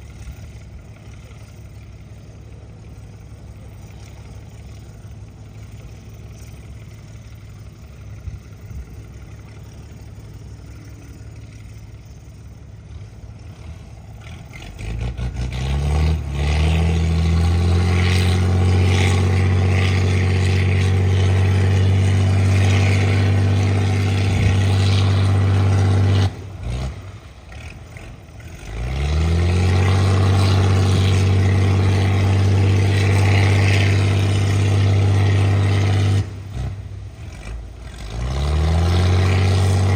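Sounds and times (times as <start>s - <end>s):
boat engine revving: 0.0s - 39.9s.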